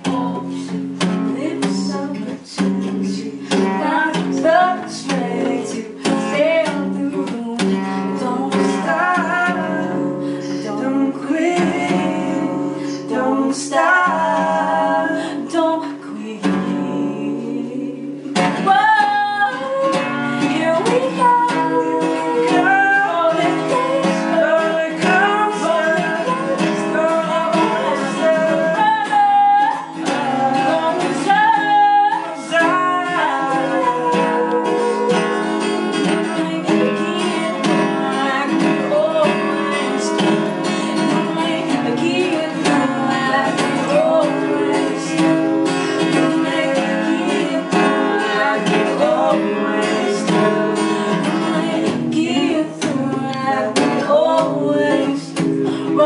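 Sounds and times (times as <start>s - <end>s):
acoustic guitar strumming: 0.0s - 56.0s
man and woman singing: 0.0s - 56.0s.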